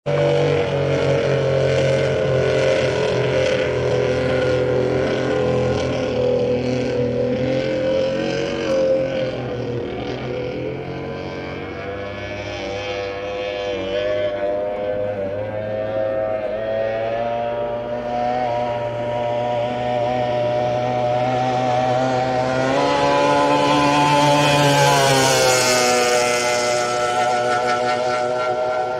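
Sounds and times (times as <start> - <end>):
powerboat engine high-revving drone: 0.0 - 28.9
outboard motor running hard: 0.1 - 28.9.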